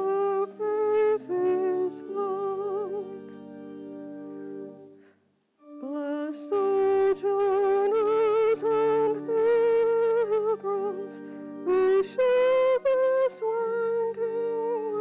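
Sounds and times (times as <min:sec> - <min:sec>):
person singing with vibrato: 0:00.0 - 0:03.6, 0:05.6 - 0:15.0
church organ playing: 0:00.0 - 0:05.0, 0:05.6 - 0:15.0.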